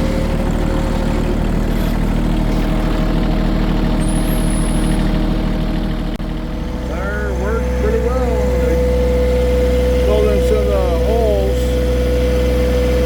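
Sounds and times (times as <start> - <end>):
tire dragging over soil: 0.0 - 13.0
tractor engine running: 0.0 - 13.0.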